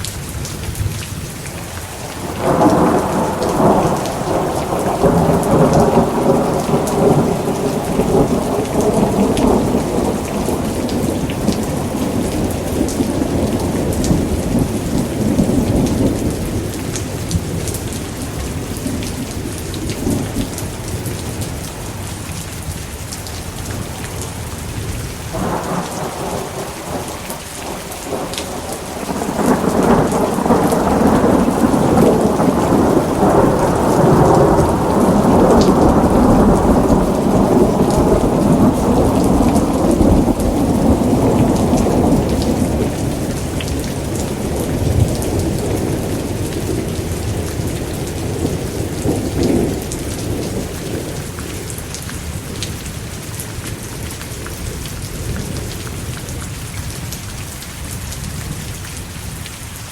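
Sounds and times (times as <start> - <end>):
steady rain: 0.0 - 59.9
rolling thunder: 2.1 - 21.4, 23.9 - 52.7.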